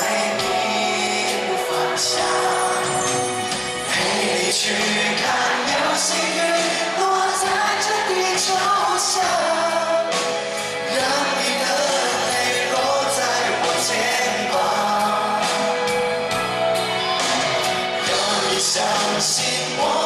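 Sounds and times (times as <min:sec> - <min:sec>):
man singing pop song: 0:00.0 - 0:16.5, 0:18.0 - 0:20.0
live band with keyboards and drums: 0:00.0 - 0:20.0.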